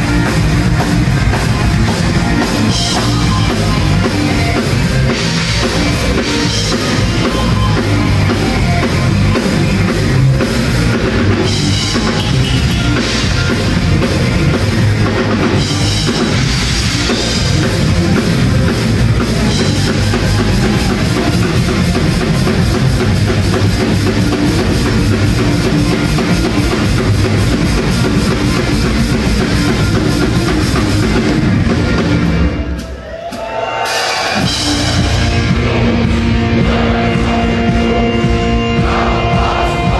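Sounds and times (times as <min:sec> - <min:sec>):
electric guitars: 0:00.0 - 0:32.8
live heavy rock band: 0:00.0 - 0:39.9
pounding drum kit: 0:00.0 - 0:39.9.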